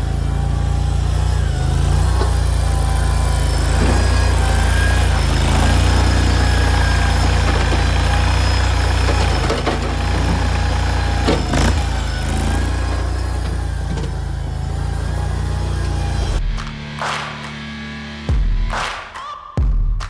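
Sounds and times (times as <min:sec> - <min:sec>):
skid steer engine running: 0:00.0 - 0:17.2.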